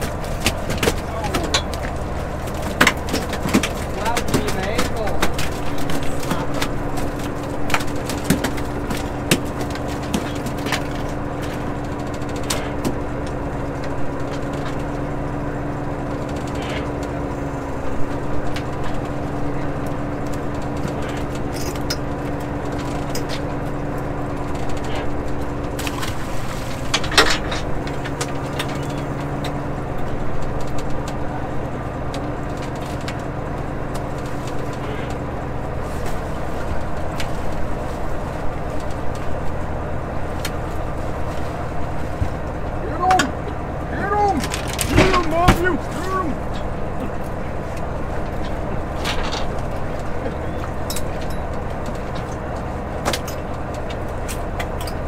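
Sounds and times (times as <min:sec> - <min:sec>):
clicks and knocks of gear: 0:00.0 - 0:39.6, 0:40.2 - 0:55.0
boat engine and hauler humming: 0:00.0 - 0:55.0.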